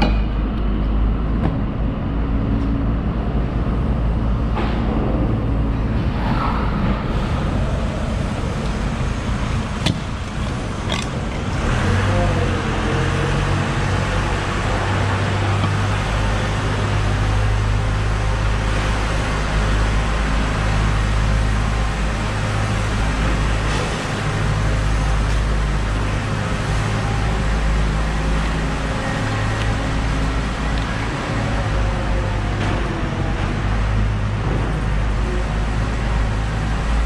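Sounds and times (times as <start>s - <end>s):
low mechanical rumble with hum: 0.0s - 37.0s.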